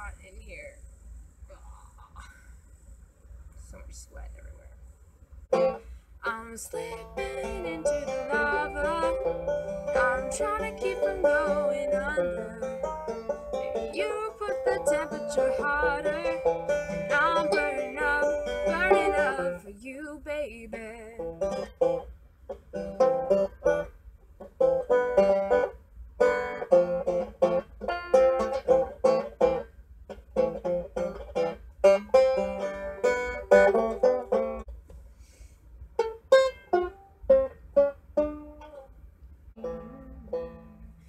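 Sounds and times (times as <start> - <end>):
banjo playing: 5.5 - 20.1, 20.7 - 34.8, 35.8 - 41.0.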